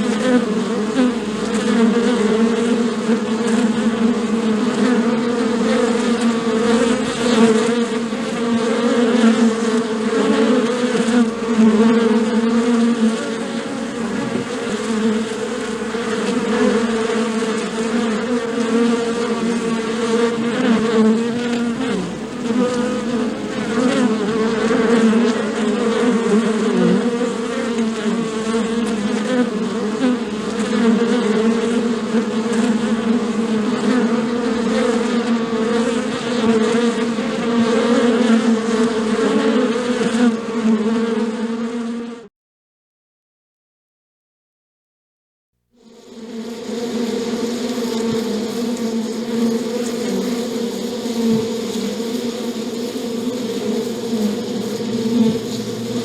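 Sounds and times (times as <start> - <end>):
bees buzzing: 0.0 - 42.2, 45.8 - 56.0.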